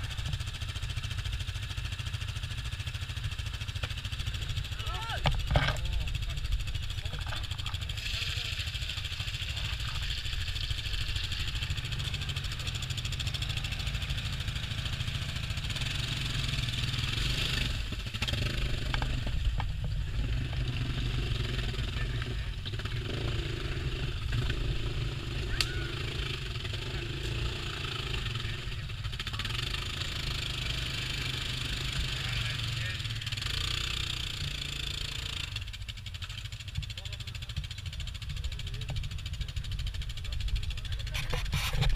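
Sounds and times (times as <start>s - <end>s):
quad bike engine running: 0.0s - 41.9s.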